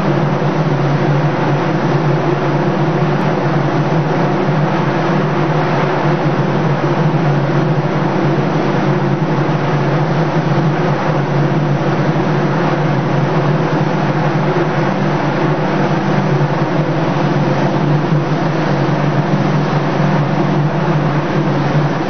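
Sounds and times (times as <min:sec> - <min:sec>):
exhaust fan hum: 0:00.0 - 0:22.0.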